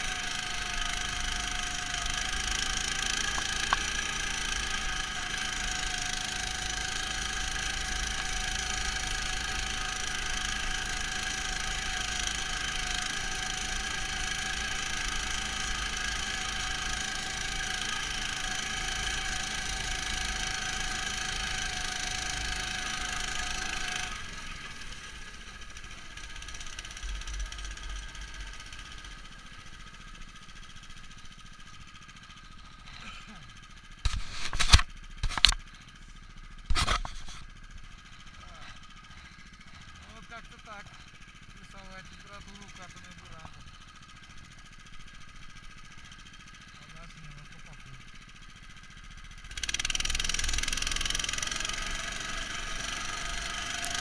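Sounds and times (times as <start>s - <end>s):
muffled engine running: 0.0s - 54.0s.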